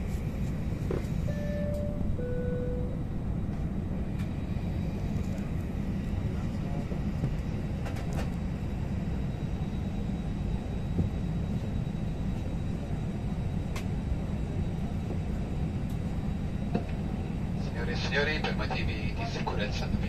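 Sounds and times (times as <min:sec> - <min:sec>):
low rumble inside airliner cabin: 0:00.0 - 0:20.0.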